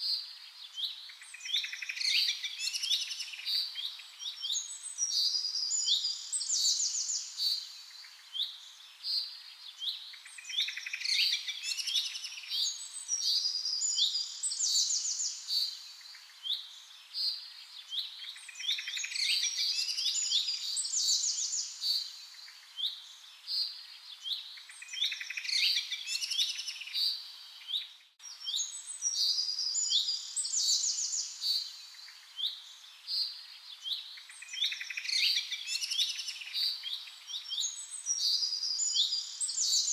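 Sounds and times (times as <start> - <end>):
birds chirping and trilling: 0.4 - 39.9.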